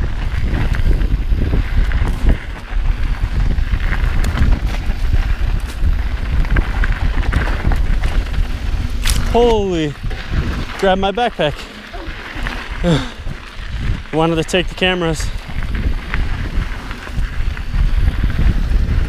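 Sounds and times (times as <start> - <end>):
bike clicks and rattles: 0.0 - 19.0
bike tyres on dirt: 0.0 - 19.0
wind buffeting microphone: 0.0 - 19.0.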